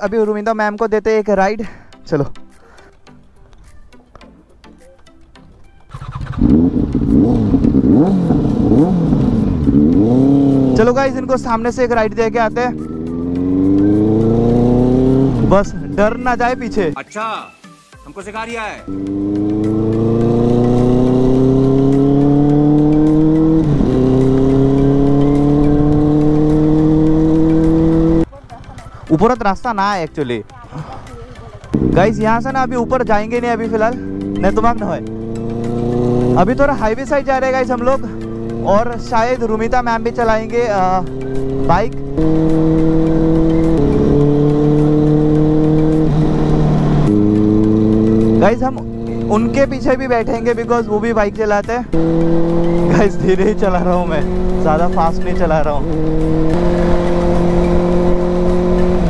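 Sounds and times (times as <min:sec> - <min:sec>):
motorcycle engine accelerating: 0:05.9 - 0:17.0, 0:18.9 - 0:28.3, 0:31.0 - 0:59.0.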